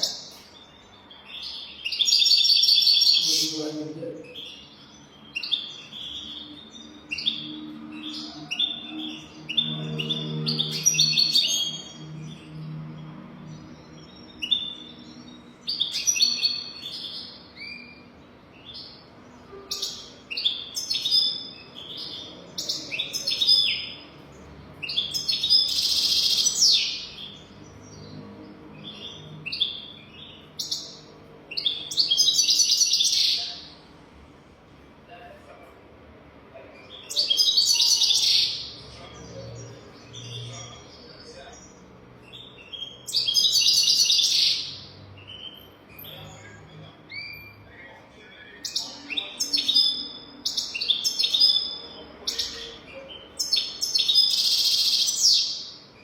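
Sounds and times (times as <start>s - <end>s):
bird twittering and trilling: 0.0s - 34.1s, 36.6s - 56.0s.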